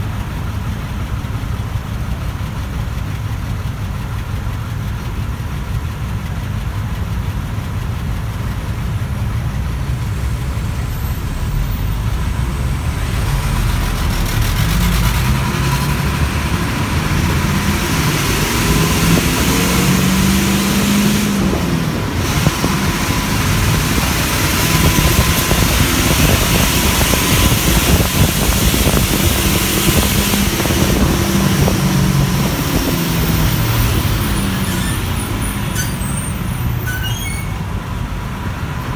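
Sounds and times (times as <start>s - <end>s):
bus engine: 0.0s - 38.9s
road noise: 0.0s - 38.9s.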